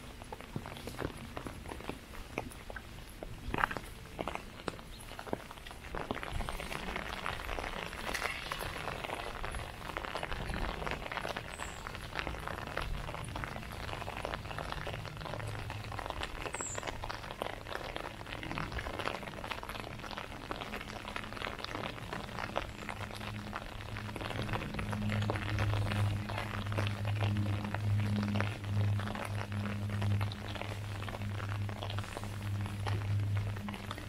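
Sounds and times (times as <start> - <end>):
rain tapping on an umbrella: 0.0 - 34.0.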